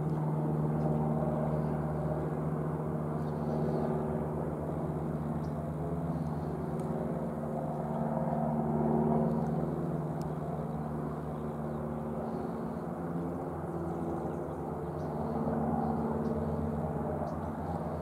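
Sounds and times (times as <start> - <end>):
low drone: 0.0 - 18.0.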